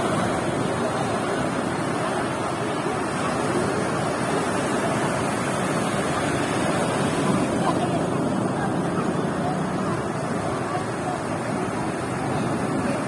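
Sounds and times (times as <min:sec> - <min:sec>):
ocean waves washing onto beach: 0:00.0 - 0:13.0.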